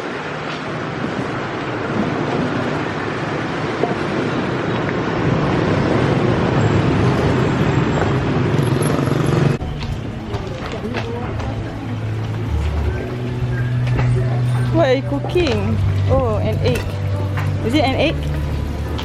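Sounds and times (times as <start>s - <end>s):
street traffic noise: 0.0s - 19.0s
vehicle rumble: 0.0s - 19.0s.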